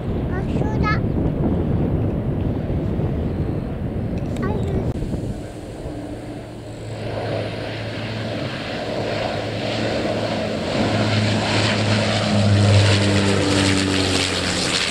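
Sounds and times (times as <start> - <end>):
airliner engine droning: 0.0 - 14.9.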